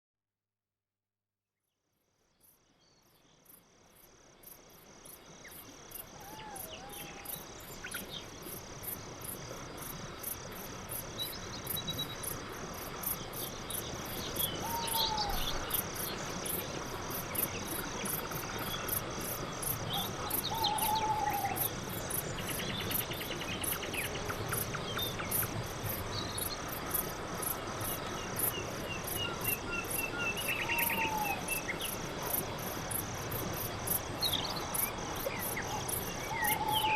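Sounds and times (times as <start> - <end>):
crickets chirping: 2.0 - 36.9.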